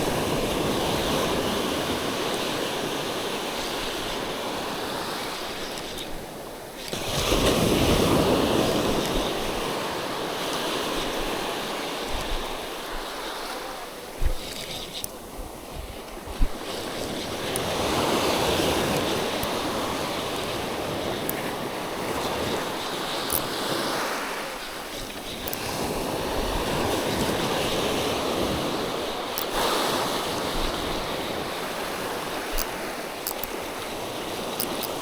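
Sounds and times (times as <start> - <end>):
sea surf washing ashore: 0.0 - 35.0.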